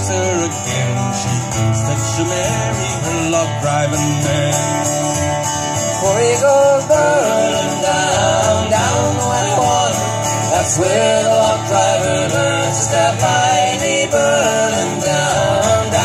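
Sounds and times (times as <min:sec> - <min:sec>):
acoustic guitars strumming: 0:00.0 - 0:16.0.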